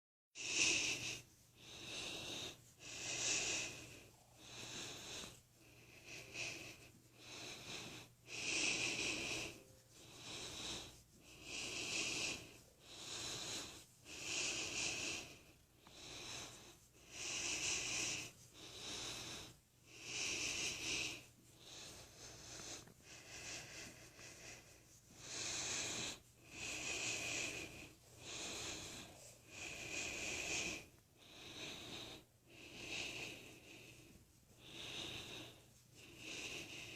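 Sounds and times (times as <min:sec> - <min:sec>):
person breathing heavily: 0:00.4 - 0:36.9.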